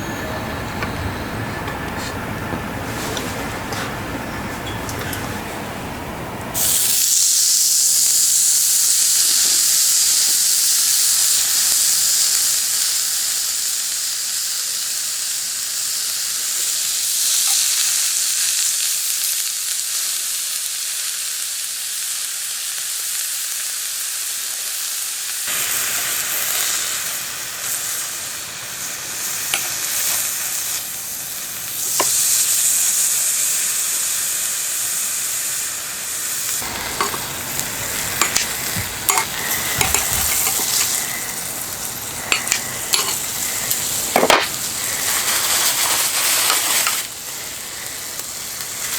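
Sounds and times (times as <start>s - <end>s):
food sizzling in a pan: 6.5s - 48.9s.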